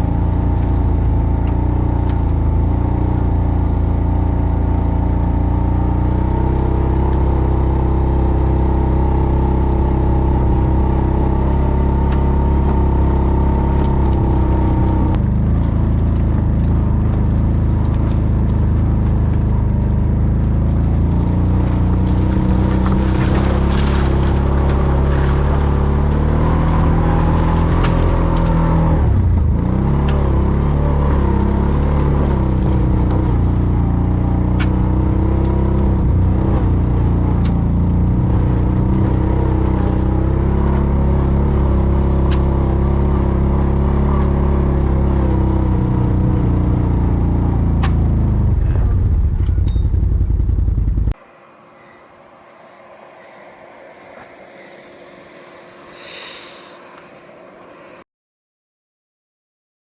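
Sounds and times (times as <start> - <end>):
atv engine running: 0.0 - 51.2.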